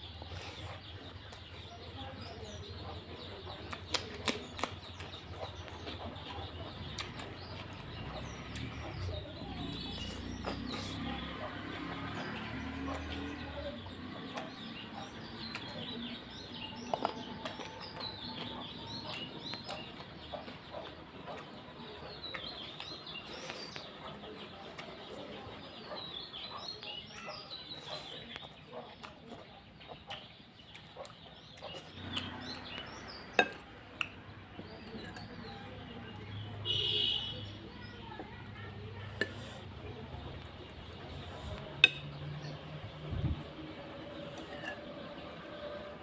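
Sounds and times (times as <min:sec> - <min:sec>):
birds chirping: 0:00.0 - 0:46.0
eating sounds: 0:00.0 - 0:46.0.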